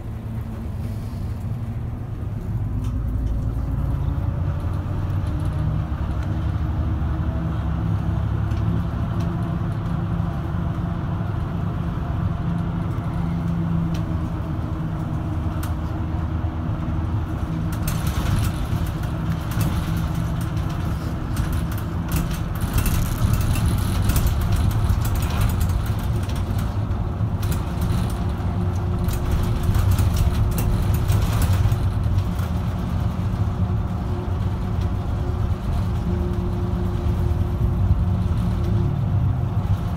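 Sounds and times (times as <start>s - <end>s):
bus diesel engine running: 0.0s - 39.9s
road rumble: 0.0s - 39.9s.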